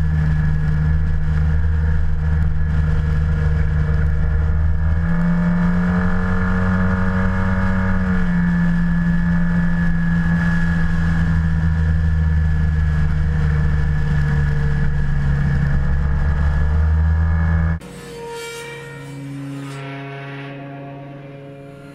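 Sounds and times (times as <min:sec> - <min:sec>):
scooter engine running: 0:00.0 - 0:18.3.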